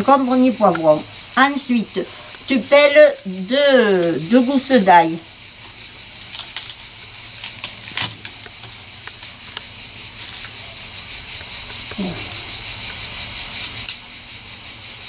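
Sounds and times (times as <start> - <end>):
cicadas chorus: 0.0 - 15.0.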